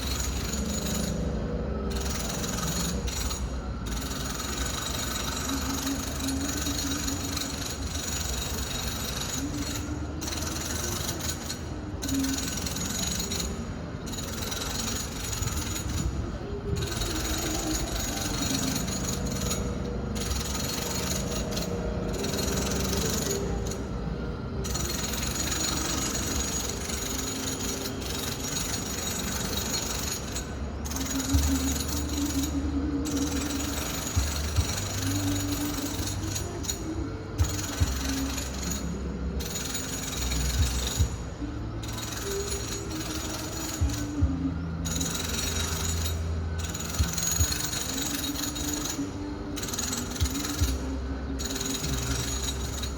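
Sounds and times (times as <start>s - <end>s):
distant power tools running: 0.0s - 52.9s
wavering low drone: 0.0s - 52.9s.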